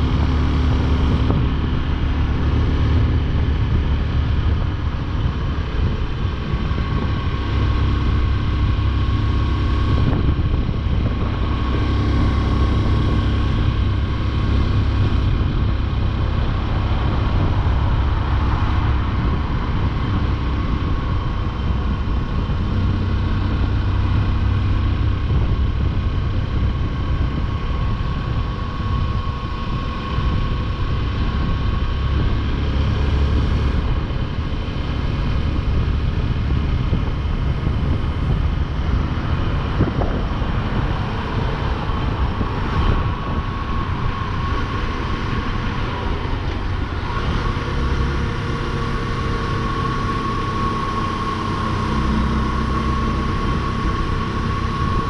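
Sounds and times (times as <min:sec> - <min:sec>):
motorcycle engine and road noise: 0:00.0 - 0:55.0.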